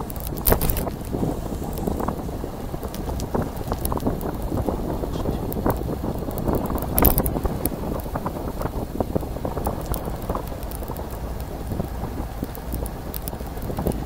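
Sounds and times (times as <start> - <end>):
bicycle clicks and rattles: 0.0 - 14.0
wind buffeting microphone: 0.0 - 14.0.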